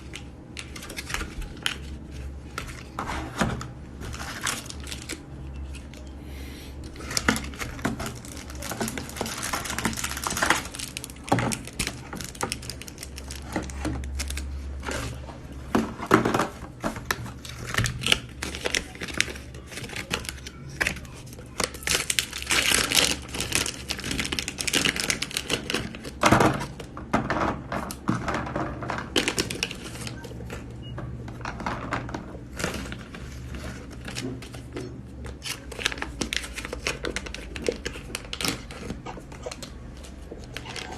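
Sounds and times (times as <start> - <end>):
plastic packaging crinkling and tearing: 0.0 - 6.2, 6.8 - 26.9, 29.0 - 30.6, 32.3 - 40.9.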